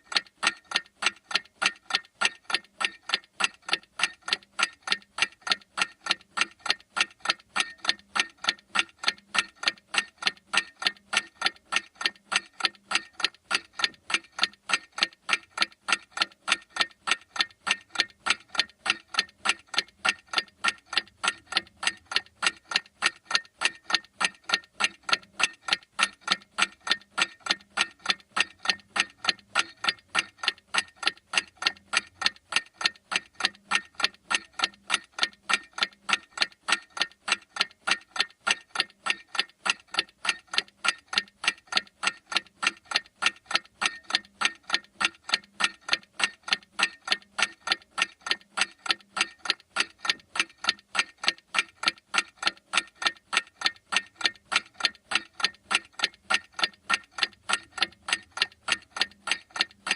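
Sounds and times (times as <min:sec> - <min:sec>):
mechanical clock ticking: 0:00.0 - 0:59.9.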